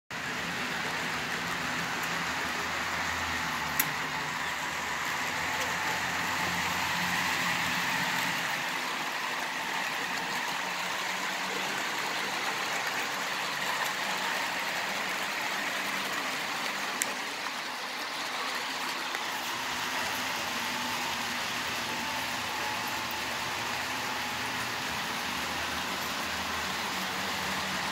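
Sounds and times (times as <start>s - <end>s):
metal wheels rolling on rails: 0.2s - 27.9s
model train motors whirring: 0.2s - 27.9s.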